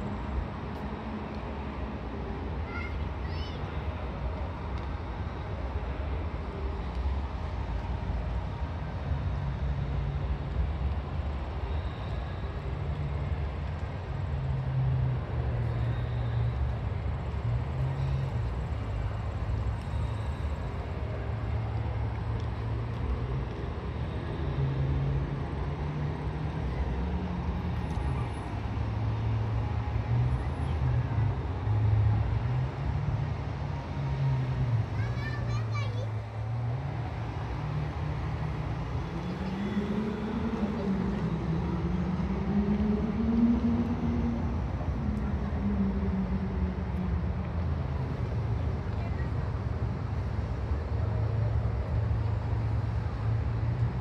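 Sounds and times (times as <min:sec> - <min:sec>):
low city rumble: 0:00.0 - 0:54.0.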